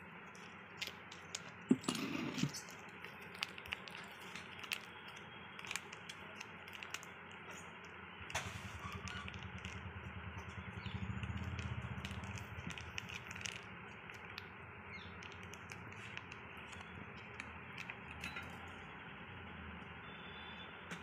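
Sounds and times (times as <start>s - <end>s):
plastic sachet crinkling and clicking: 0.2s - 18.7s.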